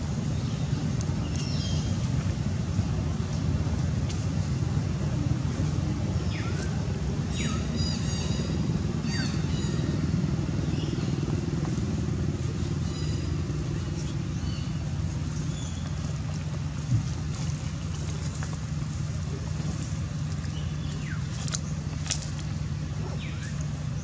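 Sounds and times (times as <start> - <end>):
low motor drone: 0.0 - 24.0.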